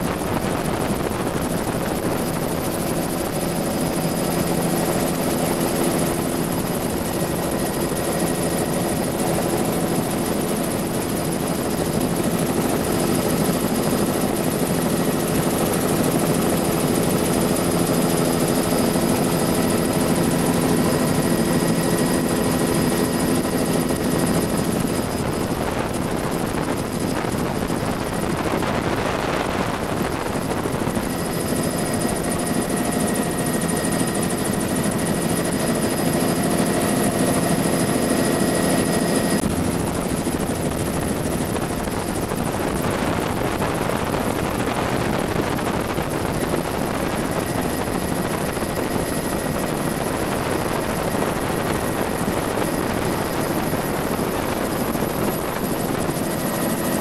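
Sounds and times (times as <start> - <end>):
helicopter rotor and engine: 0.0 - 57.0
wind rush: 0.0 - 57.0.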